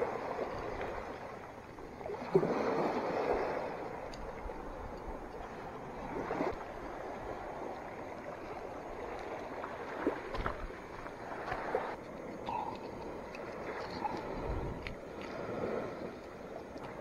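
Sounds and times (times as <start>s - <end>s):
small waves washing ashore: 0.0s - 17.0s.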